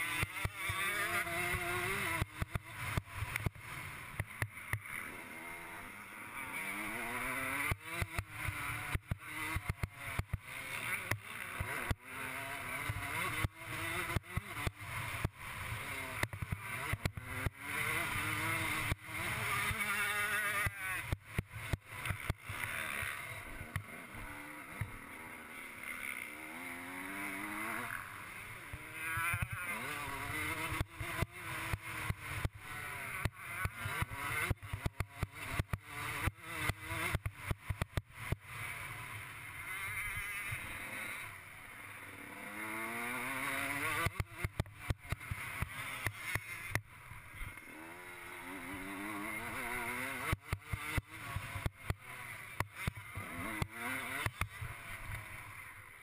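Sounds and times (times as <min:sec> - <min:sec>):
two-stroke motorcycle engine revving: 0:00.0 - 0:56.0.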